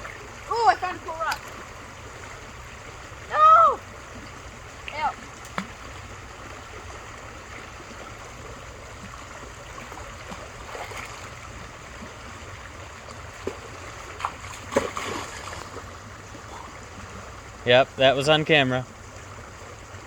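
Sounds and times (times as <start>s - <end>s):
creek water running: 0.0s - 20.0s.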